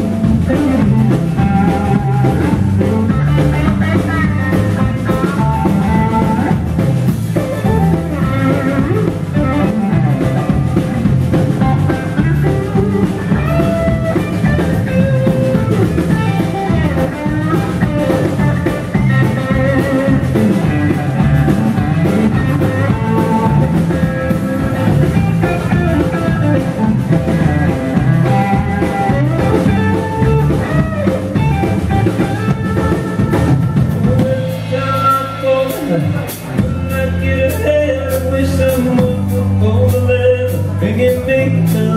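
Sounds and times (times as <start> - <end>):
bass guitar: 0.0 - 41.9
drum kit beat: 0.0 - 41.9
electric guitar lead: 0.0 - 41.9.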